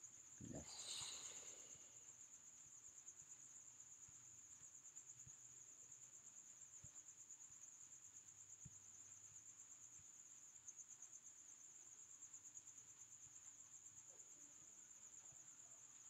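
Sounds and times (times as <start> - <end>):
faint cricket trill: 0.0 - 16.0.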